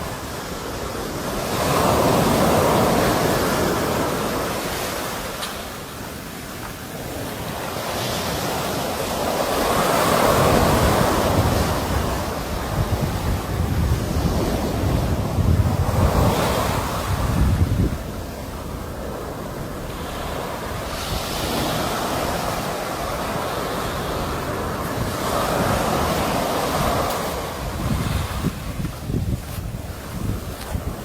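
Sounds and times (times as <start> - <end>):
sea waves washing on shore: 0.0 - 31.0
wind buffeting microphone: 0.0 - 31.0.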